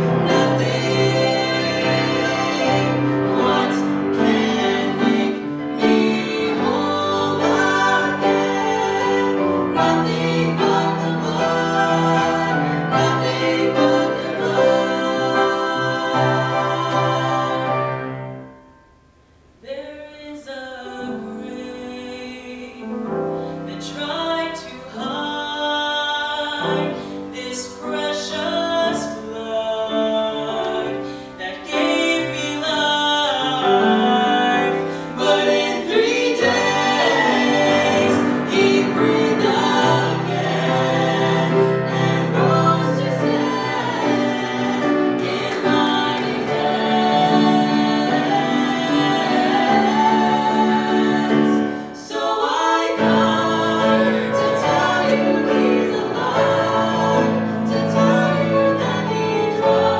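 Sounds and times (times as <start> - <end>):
vocal trio singing in harmony: 0.0 - 18.7, 19.6 - 59.9.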